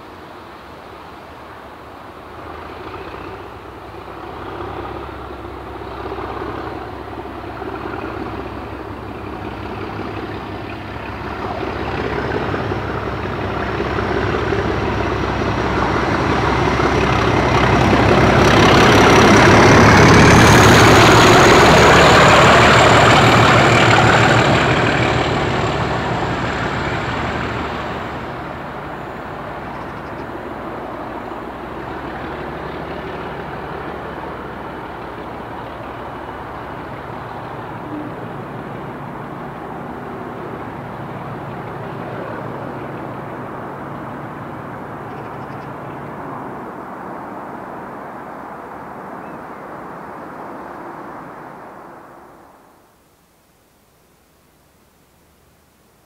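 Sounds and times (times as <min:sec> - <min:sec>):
diesel locomotive accelerating past: 0:00.0 - 0:52.7.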